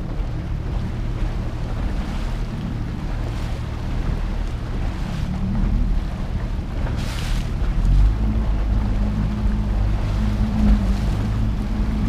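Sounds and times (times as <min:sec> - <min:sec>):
motorboat engine running: 0:00.0 - 0:12.0
water noise: 0:00.0 - 0:12.0
wind: 0:00.0 - 0:12.0.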